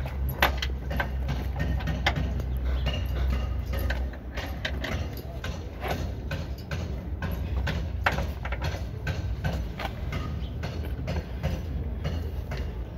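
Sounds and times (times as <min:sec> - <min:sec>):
metal tools clicking and knocking: 0:00.0 - 0:12.9.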